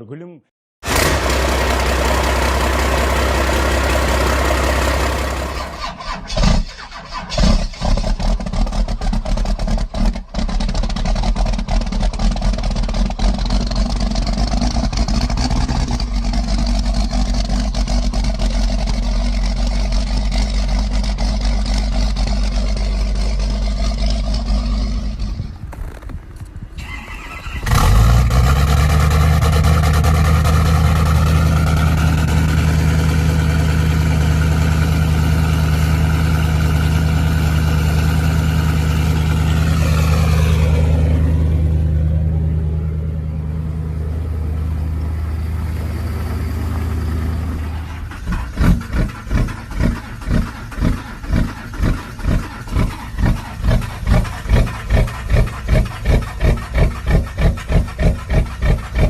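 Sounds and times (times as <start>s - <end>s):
diesel engine running: 0.8s - 59.0s.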